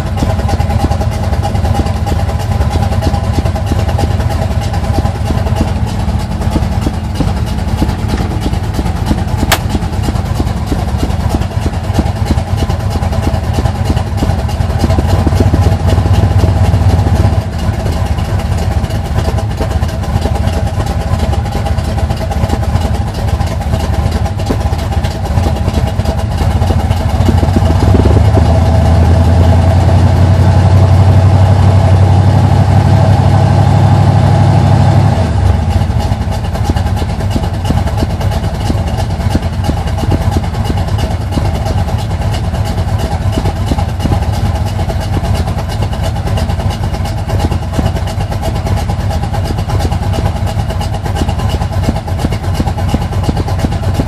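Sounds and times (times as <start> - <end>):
car engine idling roughly: 0.0 - 54.0.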